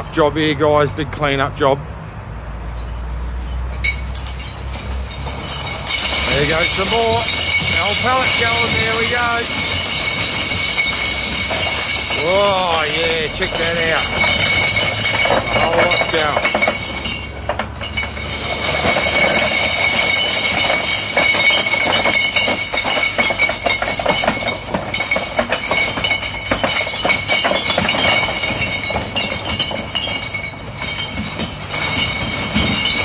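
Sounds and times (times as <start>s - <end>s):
glass bottles clattering: 2.6s - 33.0s.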